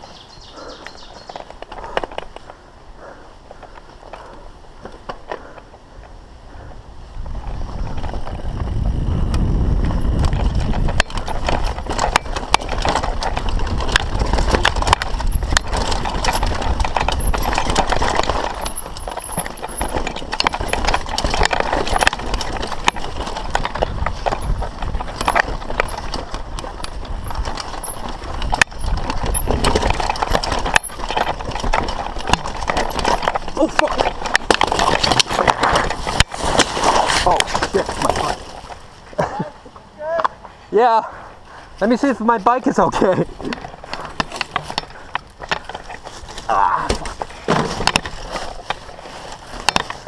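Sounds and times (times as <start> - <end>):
wind rumbling on microphone: 0.0 - 40.1
mountain bike rattling over trail: 0.0 - 50.0.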